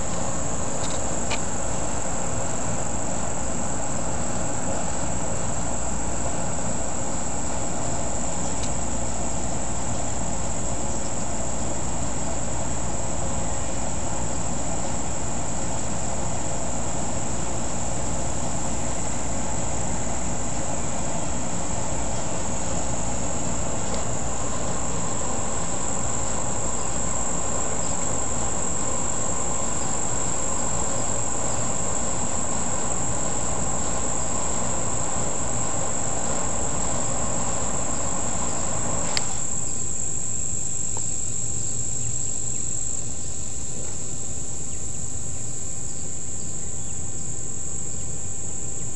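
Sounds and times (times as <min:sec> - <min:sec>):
insect chorus trilling: 0:00.0 - 0:48.9.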